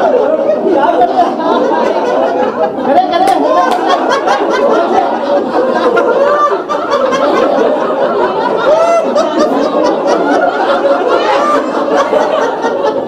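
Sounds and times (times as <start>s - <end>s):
group of adults laughing: 0.0s - 13.0s.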